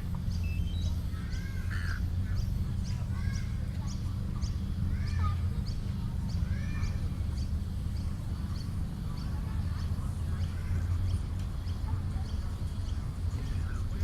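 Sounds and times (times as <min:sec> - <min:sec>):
birds chirping: 0:00.0 - 0:14.0
longer lower bird calls: 0:00.0 - 0:14.0
steady low rumble: 0:00.0 - 0:14.0.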